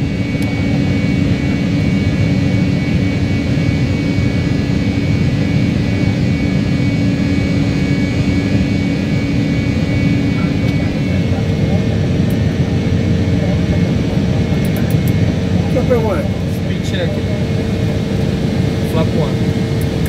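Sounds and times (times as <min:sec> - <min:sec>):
jet engine rumble in cabin: 0:00.0 - 0:20.0
steady hum: 0:00.0 - 0:20.0.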